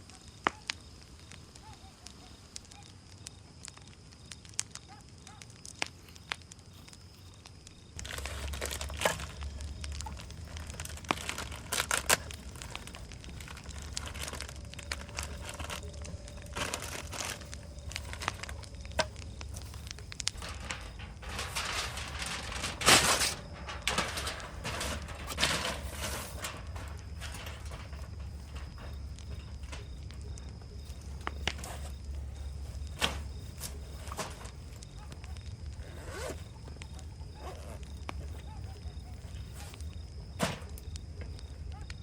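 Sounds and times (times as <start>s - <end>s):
rustling and crinkling handling: 5.7s - 42.0s
low steady hum: 7.1s - 41.9s.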